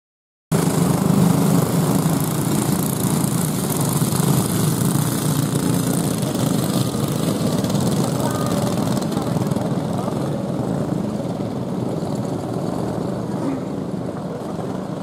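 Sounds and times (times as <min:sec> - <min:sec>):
go-kart engines racing: 0:00.5 - 0:15.0.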